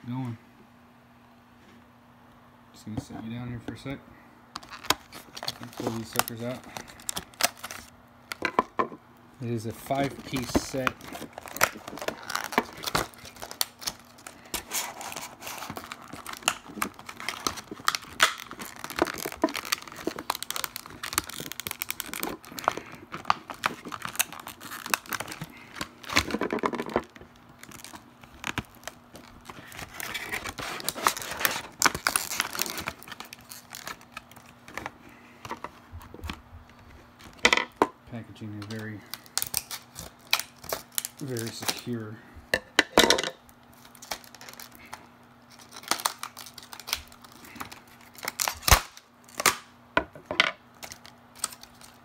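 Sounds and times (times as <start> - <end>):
plastic packaging crackling: 4.6 - 8.8, 9.4 - 37.8, 38.4 - 42.1, 43.3 - 49.7, 50.6 - 52.0.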